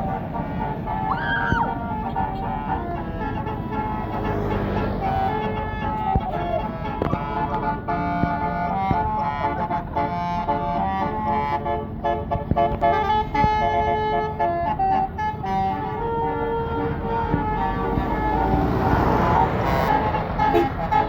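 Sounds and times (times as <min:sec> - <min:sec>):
multi-tone bus horn tune: 0:00.0 - 0:21.0
traffic noise: 0:00.0 - 0:21.0.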